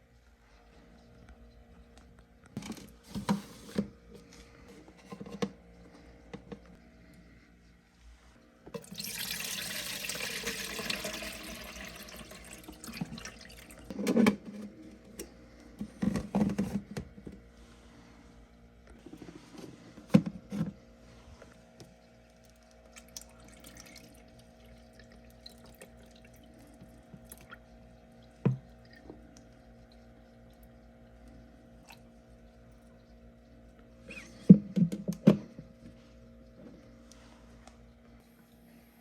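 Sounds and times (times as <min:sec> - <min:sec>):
steady low hum: 0:00.0 - 0:08.8, 0:11.0 - 0:39.0.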